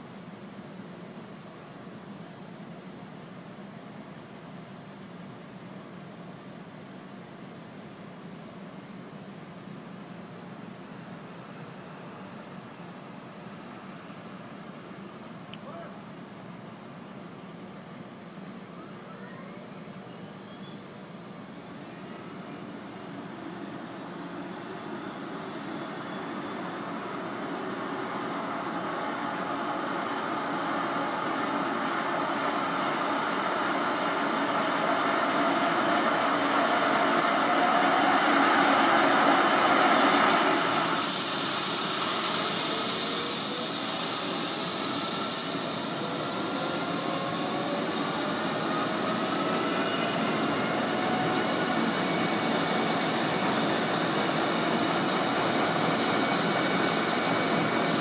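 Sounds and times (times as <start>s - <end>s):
helicopter turbine and rotor whine: 0.0s - 58.0s.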